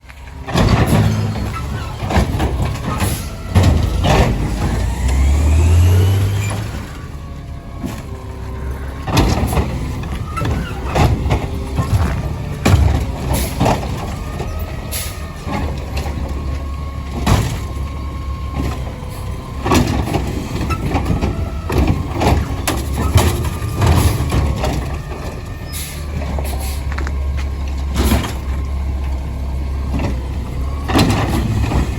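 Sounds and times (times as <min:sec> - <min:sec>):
garbage truck engine running: 0:00.0 - 0:31.9
bins banging: 0:00.3 - 0:31.9.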